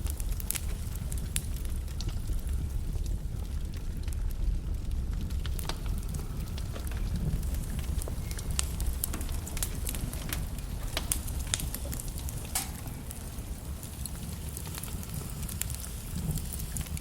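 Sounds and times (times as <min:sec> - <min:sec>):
flames rumbling: 0:00.0 - 0:17.0
logs crackling and popping: 0:00.0 - 0:17.0.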